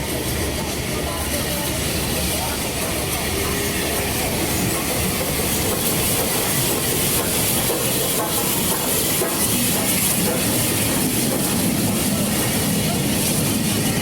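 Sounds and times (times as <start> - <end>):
train steady hiss: 0.0 - 14.0.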